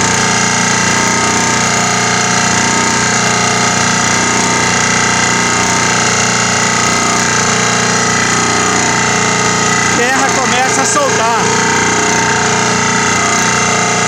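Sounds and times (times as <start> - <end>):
pile driver mechanical drone: 0.0 - 14.0.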